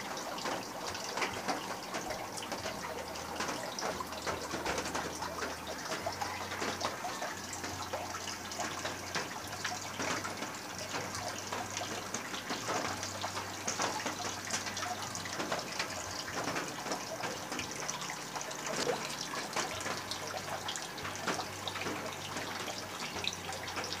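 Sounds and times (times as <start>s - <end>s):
aquarium water bubbling: 0.0s - 24.0s
small pops and splashes: 0.0s - 24.0s.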